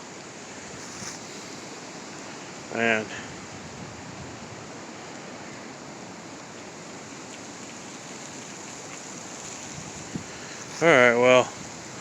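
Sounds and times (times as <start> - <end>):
strong wind through trees: 0.0 - 12.0.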